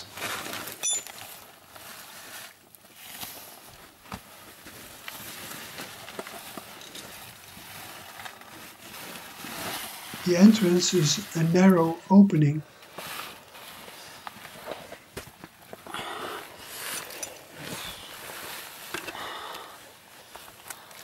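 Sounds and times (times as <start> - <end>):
faint rustling and scraping: 0.0 - 12.0, 12.7 - 21.0.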